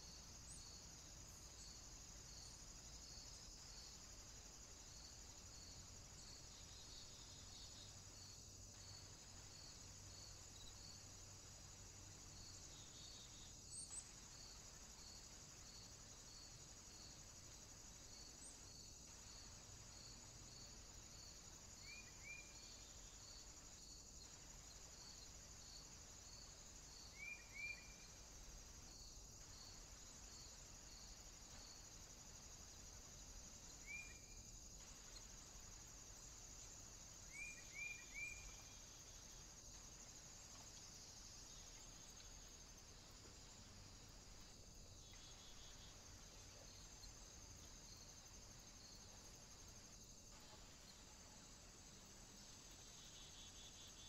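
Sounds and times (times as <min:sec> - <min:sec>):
insects humming: 0:00.0 - 0:54.0.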